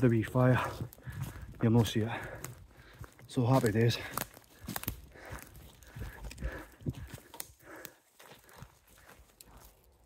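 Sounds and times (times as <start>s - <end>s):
footsteps crunching on leaf litter: 0.0s - 10.0s.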